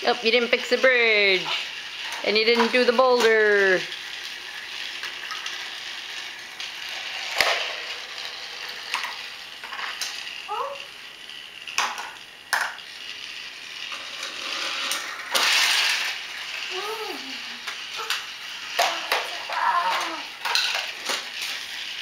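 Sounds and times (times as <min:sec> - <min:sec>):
toy train whirring: 0:00.0 - 0:22.0.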